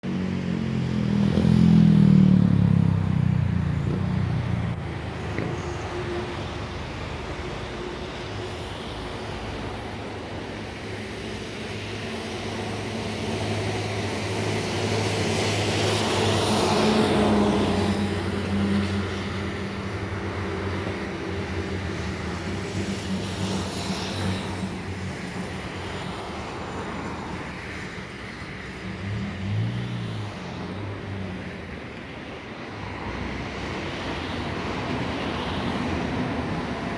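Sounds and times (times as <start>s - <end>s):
road traffic: 0.0s - 36.9s.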